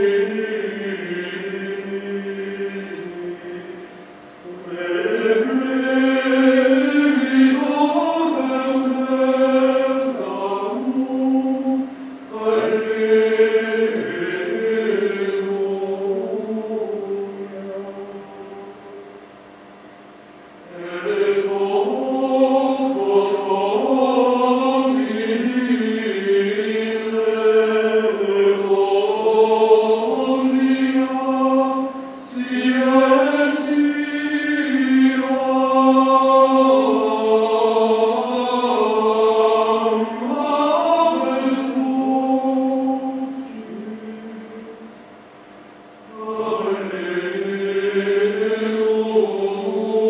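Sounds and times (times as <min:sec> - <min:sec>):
chant singing: 0:00.0 - 0:19.2, 0:20.6 - 0:45.0, 0:46.0 - 0:50.0.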